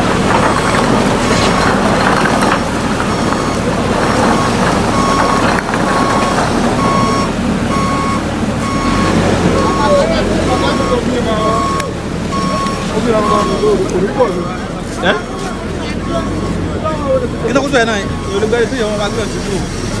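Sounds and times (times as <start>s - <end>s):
loud outdoor noise: 0.0s - 20.0s
vehicle reversing alarm beeping: 0.0s - 20.0s.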